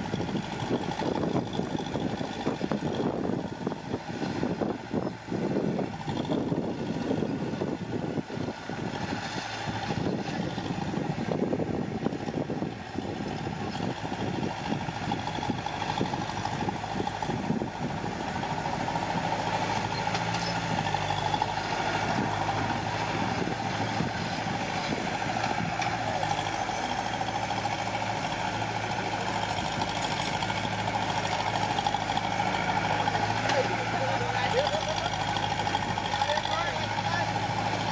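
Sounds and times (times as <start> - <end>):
heavy machine engine running: 0.0 - 37.9.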